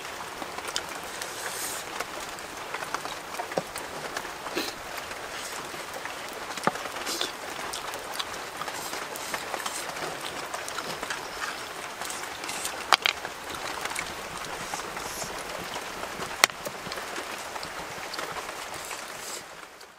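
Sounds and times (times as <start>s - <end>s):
steady hiss: 0.0s - 19.9s
snail shells crackling while eating: 0.5s - 19.6s.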